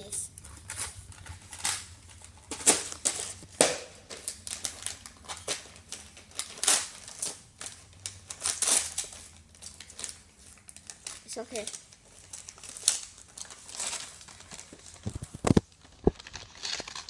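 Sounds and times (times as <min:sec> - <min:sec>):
wrapping paper crinkling: 0:00.0 - 0:17.0.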